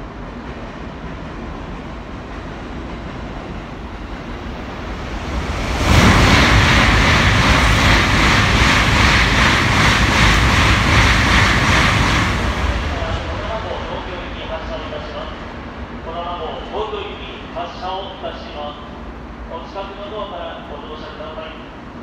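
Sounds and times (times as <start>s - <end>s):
high-speed train rushing past: 0.0s - 22.0s.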